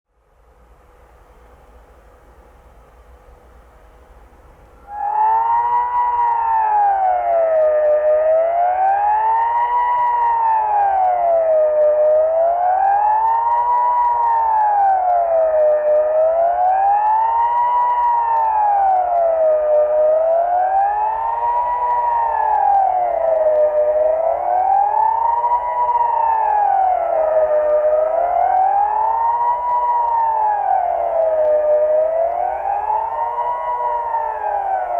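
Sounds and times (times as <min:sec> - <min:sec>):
civil defence siren wailing: 0:04.8 - 0:34.9.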